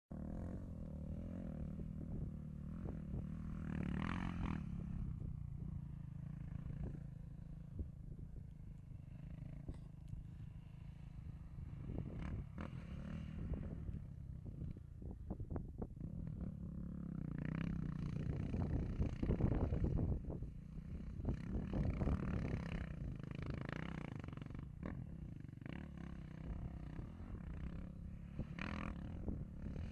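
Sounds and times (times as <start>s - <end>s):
quad bike engine revving: 0.2s - 14.8s, 15.9s - 29.9s.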